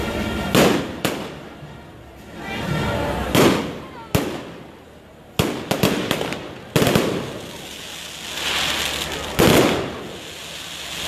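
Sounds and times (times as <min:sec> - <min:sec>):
fireworks crackling: 0:00.0 - 0:11.0
fireworks bangs: 0:00.2 - 0:01.6, 0:03.2 - 0:11.0.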